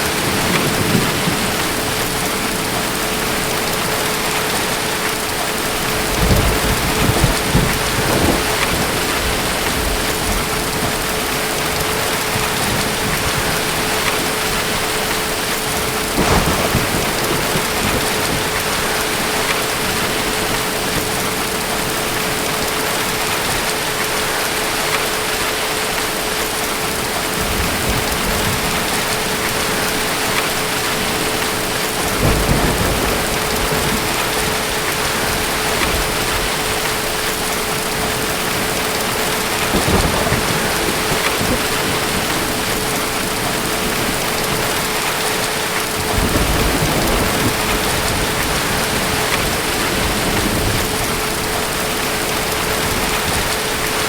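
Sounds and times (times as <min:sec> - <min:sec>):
distant thunder rumbles: 0:00.0 - 0:23.7, 0:27.3 - 0:54.0
heavy rain: 0:00.0 - 0:54.0.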